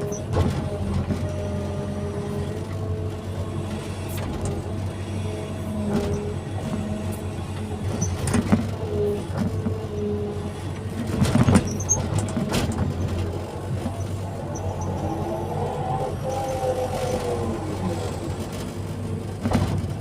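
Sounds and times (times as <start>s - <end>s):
hydraulic whine: 0.0s - 18.6s
diesel engine running: 0.0s - 20.0s.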